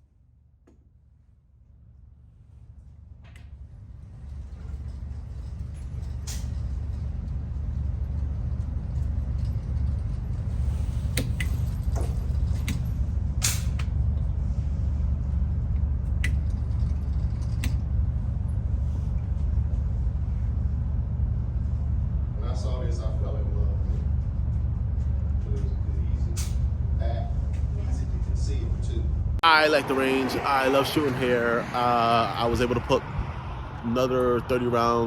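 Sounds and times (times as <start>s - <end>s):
steady low rumble: 1.1s - 35.0s.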